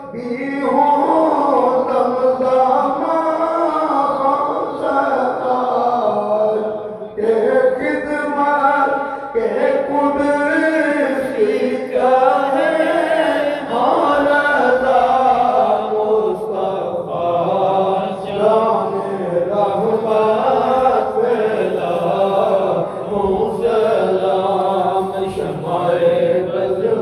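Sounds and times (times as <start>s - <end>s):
man chanting melodic recitation: 0.0s - 27.0s.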